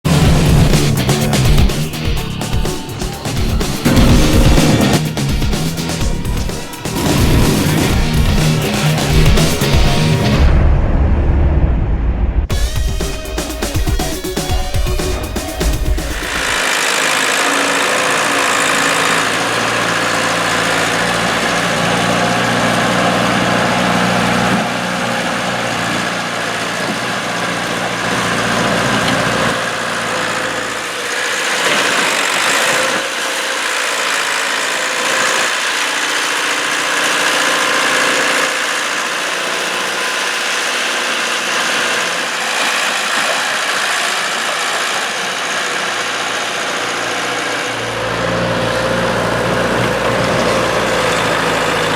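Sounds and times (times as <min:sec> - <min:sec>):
vehicle engine idling: 0:00.1 - 0:11.2, 0:12.5 - 0:51.9.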